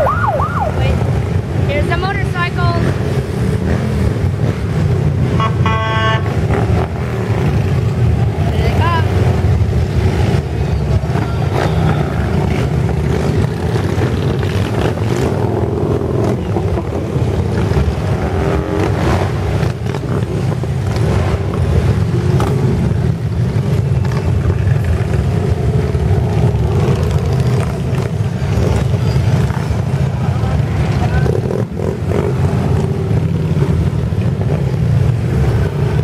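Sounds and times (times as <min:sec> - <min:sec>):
motorcycles riding past rumbling: 0:00.0 - 0:36.0.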